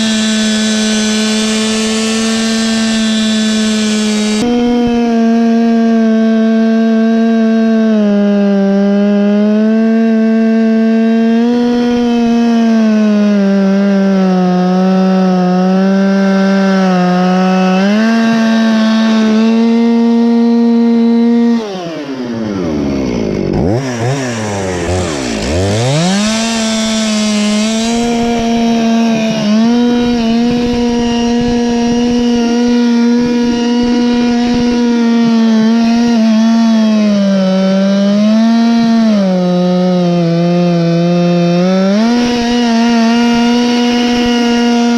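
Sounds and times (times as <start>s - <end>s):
chainsaw cutting a log: 0.0s - 44.9s.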